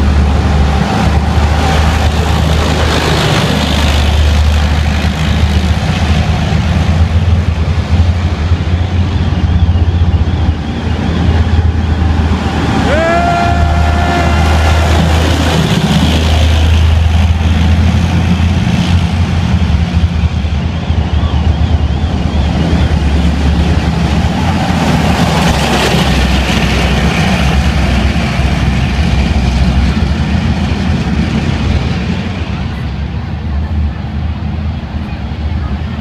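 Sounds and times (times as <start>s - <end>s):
tank engines rumbling: 0.0s - 36.0s.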